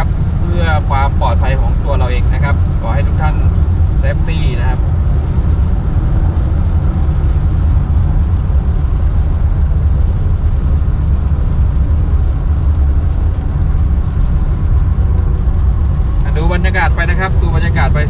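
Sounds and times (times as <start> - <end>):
car driving on wet road: 0.0 - 18.0.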